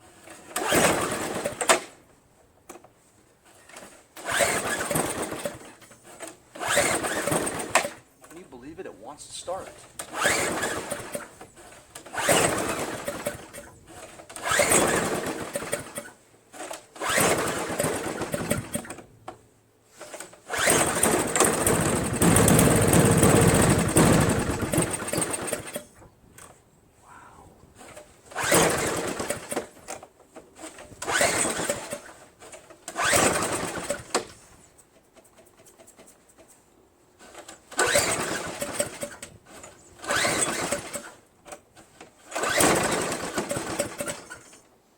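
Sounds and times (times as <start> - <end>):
snowblower engine starting: 0.0 - 2.1, 2.7 - 26.6, 27.8 - 34.6, 37.2 - 44.7.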